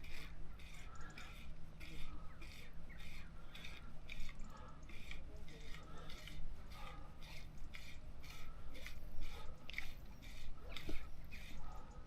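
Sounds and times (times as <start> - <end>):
fishing line rasping: 0.0 - 12.0.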